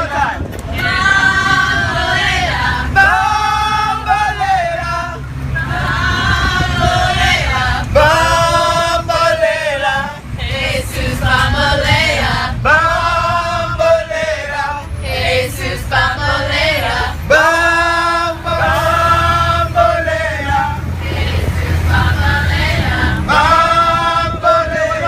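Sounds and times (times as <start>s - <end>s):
bus engine rumbling: 0.0s - 25.0s
group singing in unison: 0.0s - 25.0s.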